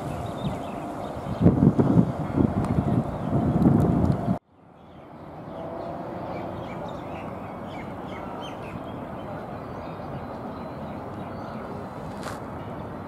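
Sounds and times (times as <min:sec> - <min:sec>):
small birds chirping: 0:00.0 - 0:03.6, 0:04.2 - 0:12.4.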